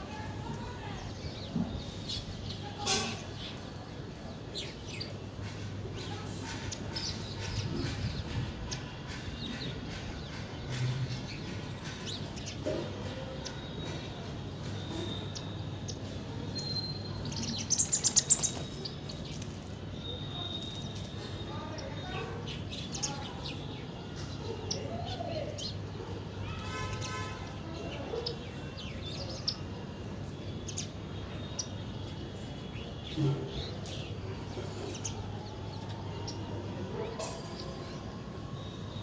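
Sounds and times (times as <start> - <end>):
small birds chirping: 0.3 - 26.6, 27.4 - 39.0.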